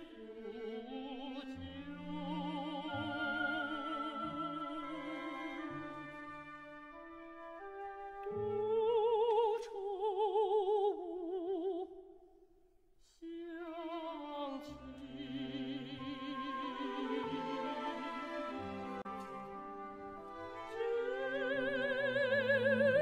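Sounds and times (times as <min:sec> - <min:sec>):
symphony orchestra: 0:00.0 - 0:11.2, 0:13.3 - 0:23.0
woman singing classical song: 0:00.0 - 0:12.1, 0:13.1 - 0:23.0.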